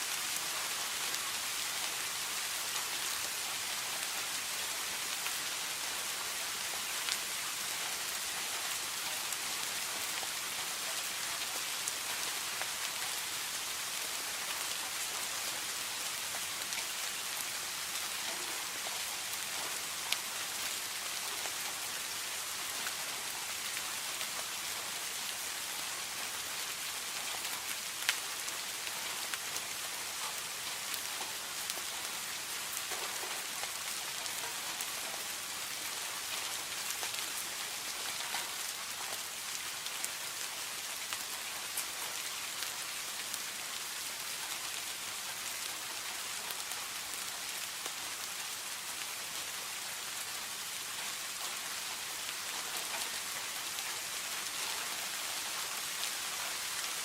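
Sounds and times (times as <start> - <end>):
steady rain hiss: 0.0 - 57.0
raindrops ticking on a surface: 0.2 - 57.0.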